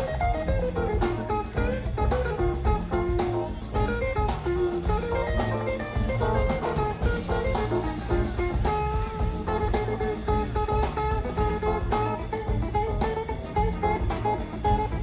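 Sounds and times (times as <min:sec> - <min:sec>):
drum kit: 0:00.0 - 0:15.0
jazzy guitar instrumental: 0:00.0 - 0:15.0.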